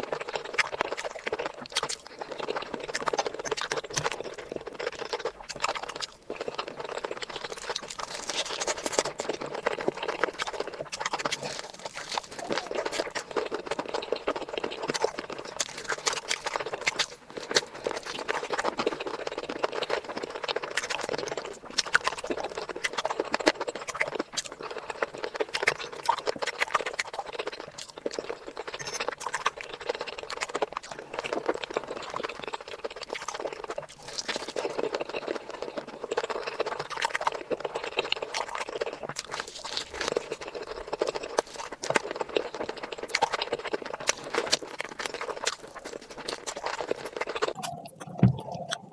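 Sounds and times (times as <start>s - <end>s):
person chewing and lip smacking: 0.0s - 48.9s.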